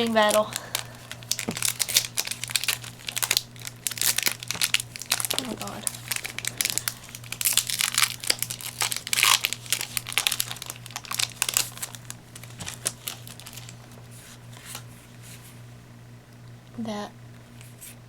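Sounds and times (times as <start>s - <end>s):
foil wrapper crinkling and tearing: 0.0s - 14.9s.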